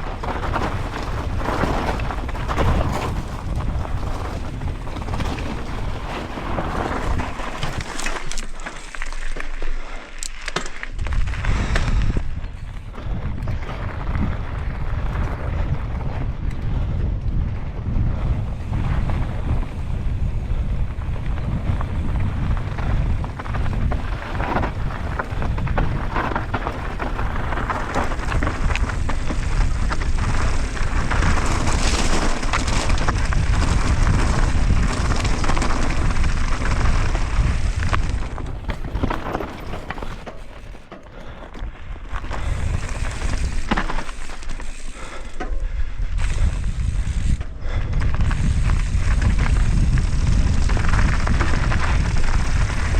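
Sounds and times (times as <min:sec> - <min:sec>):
wind buffeting microphone: 0:00.0 - 0:08.6, 0:10.9 - 0:52.9
tyres crunching over rocky ground: 0:00.0 - 0:16.5, 0:18.2 - 0:52.9
bike rattling: 0:00.0 - 0:52.9.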